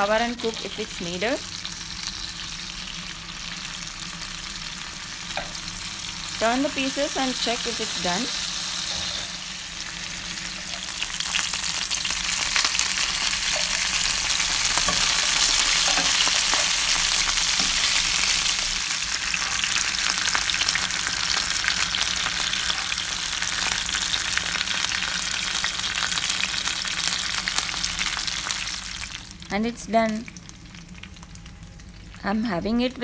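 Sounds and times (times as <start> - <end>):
chicken sizzling in a pan: 0.0 - 32.2.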